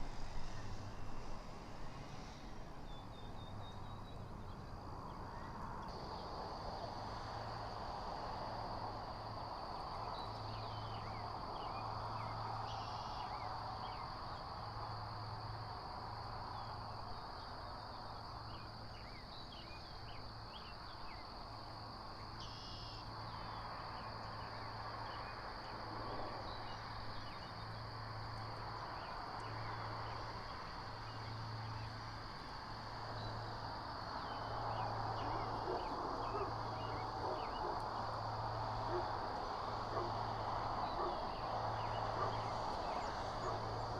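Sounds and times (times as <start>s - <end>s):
wind: 0.0s - 43.9s.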